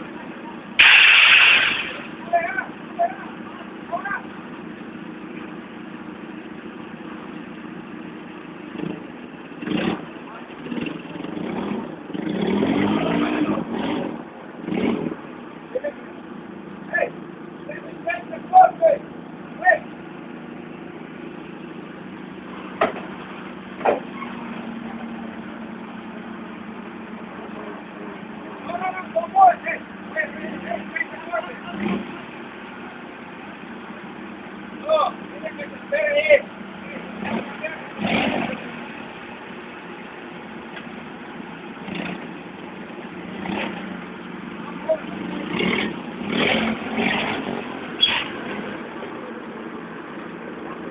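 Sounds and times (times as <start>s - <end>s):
forklift engine idling: 0.0s - 12.3s, 13.4s - 50.9s.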